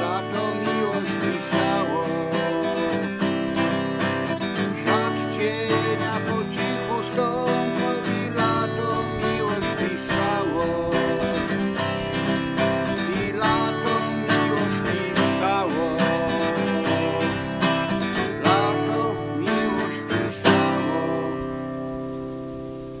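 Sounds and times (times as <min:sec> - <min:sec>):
acoustic guitar chords: 0:00.0 - 0:23.0.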